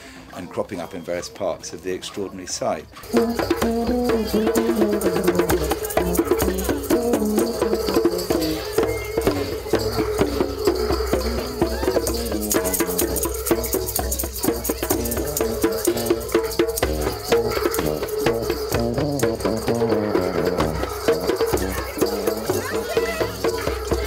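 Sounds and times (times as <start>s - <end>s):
rapid clicking percussion: 3.0s - 24.0s
sustained pitched accompaniment: 3.1s - 24.0s.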